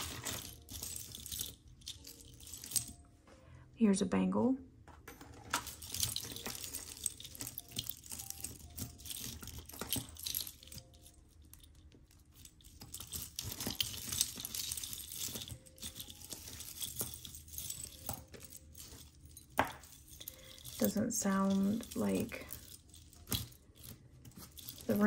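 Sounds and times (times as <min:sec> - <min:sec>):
metal jewelry clinking: 0:00.0 - 0:03.2, 0:05.1 - 0:25.0.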